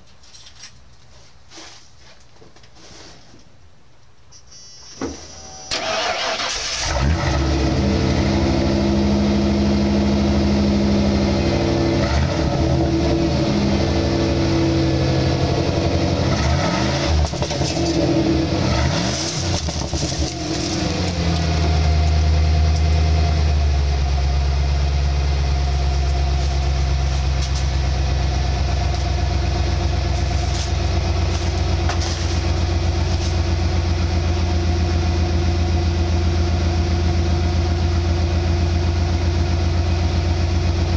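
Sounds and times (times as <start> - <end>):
truck engine idling: 5.7 - 16.3, 17.1 - 40.9.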